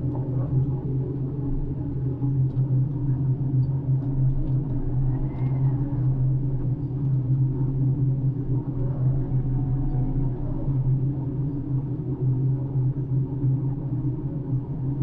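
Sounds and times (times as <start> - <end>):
faint whine: 0.0 - 15.0.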